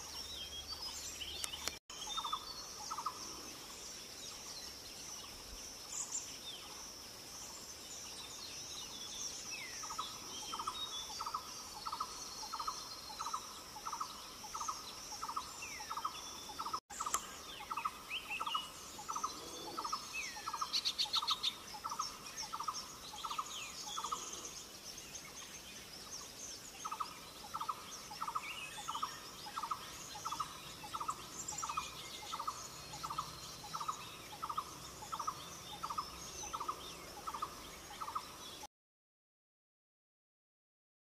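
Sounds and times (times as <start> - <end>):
small birds chirping: 0.0 - 38.7.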